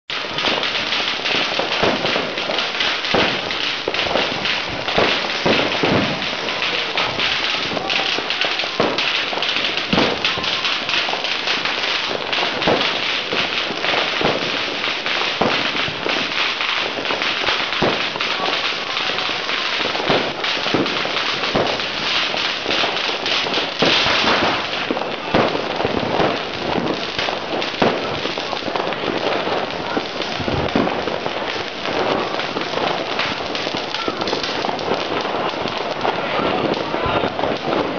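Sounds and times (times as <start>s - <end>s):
firecrackers crackling: 0.1s - 37.9s
firework bangs: 0.1s - 37.9s.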